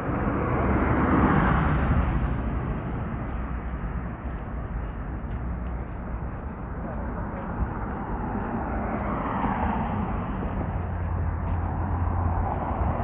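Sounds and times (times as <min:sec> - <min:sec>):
rush of traffic: 0:00.0 - 0:13.0.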